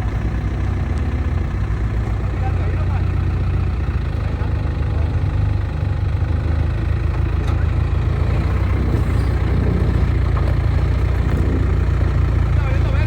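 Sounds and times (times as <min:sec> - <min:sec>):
vehicle engine running low revs: 0:00.0 - 0:13.0.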